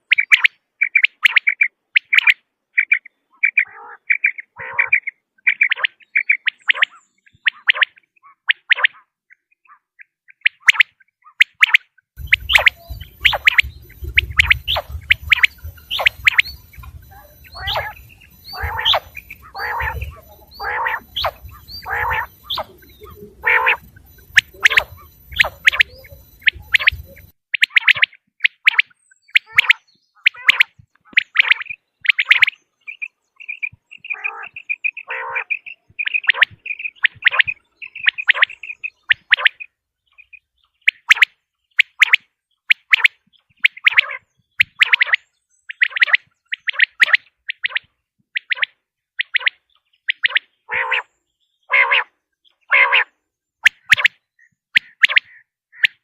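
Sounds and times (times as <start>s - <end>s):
quail chirping: 0.0s - 56.0s.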